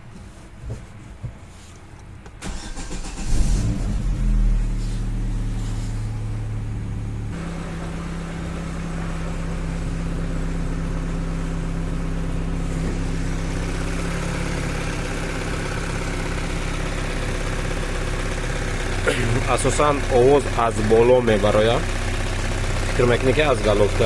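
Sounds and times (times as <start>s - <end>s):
petrol engine idling: 1.0s - 24.0s.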